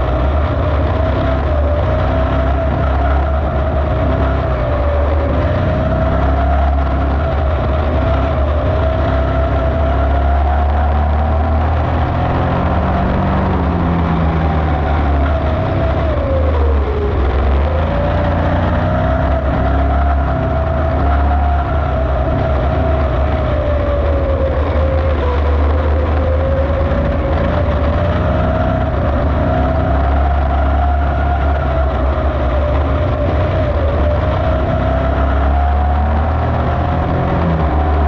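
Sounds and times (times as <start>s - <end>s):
race car engine running hard: 0.0s - 38.0s.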